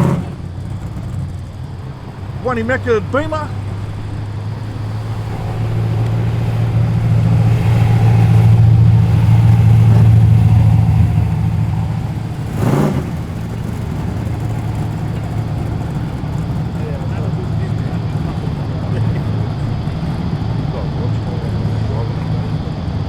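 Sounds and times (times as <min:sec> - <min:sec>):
car engine passing by: 0:00.0 - 0:23.0
car engine revving: 0:00.0 - 0:23.0.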